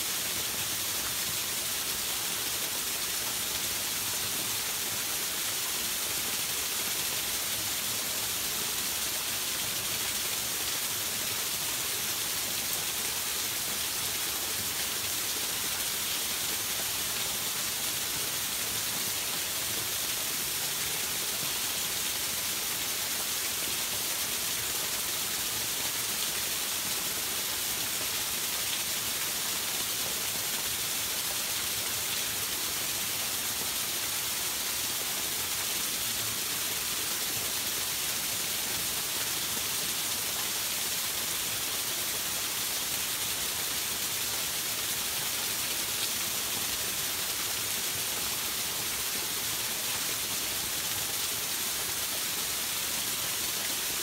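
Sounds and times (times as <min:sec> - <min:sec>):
stream rushing over small waterfalls: 0:00.0 - 0:54.0.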